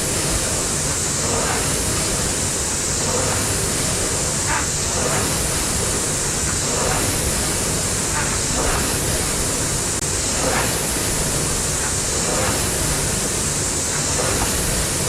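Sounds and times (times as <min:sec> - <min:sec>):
rowing machine flywheel whoosh: 0:00.0 - 0:15.0.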